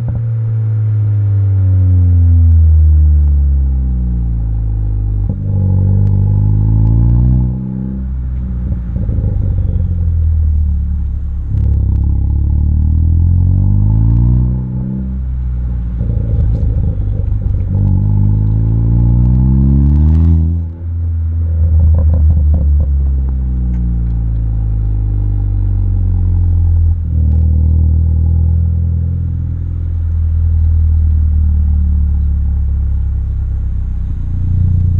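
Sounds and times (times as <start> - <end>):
car engine revving: 0.0 - 34.9
exhaust crackling: 0.0 - 34.9.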